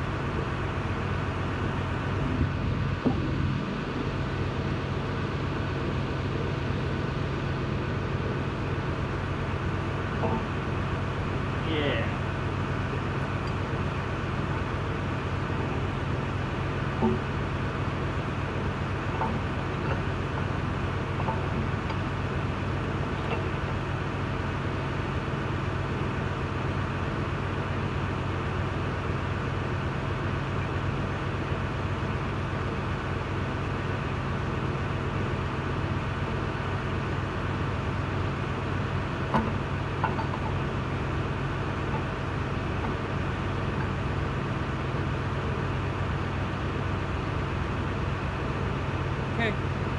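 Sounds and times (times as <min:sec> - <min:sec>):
low machine hum: 0:00.0 - 0:49.9.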